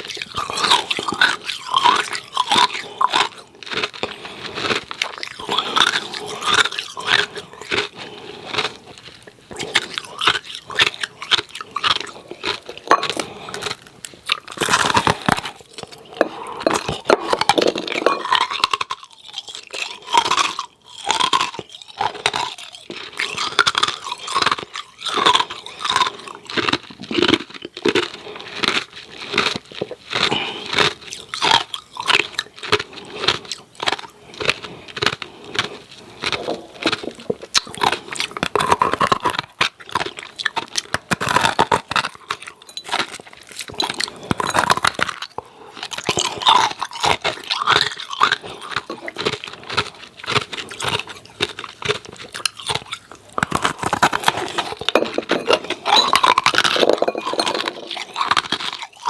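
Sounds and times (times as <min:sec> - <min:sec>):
chewing ice cubes: 0:00.0 - 0:59.0.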